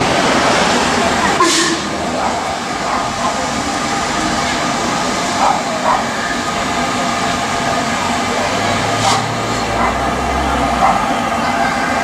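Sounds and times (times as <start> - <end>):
steam locomotive running slowly: 0.0 - 12.0.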